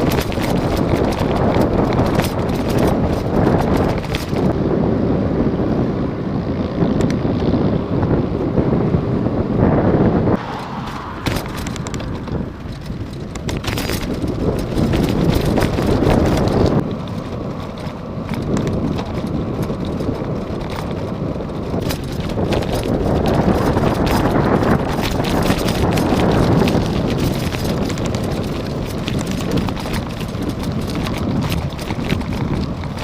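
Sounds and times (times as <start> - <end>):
crunching on loose ground: 0.0 - 4.6, 10.5 - 33.0
steady rumble: 0.0 - 33.0
wind buffeting microphone: 0.0 - 33.0.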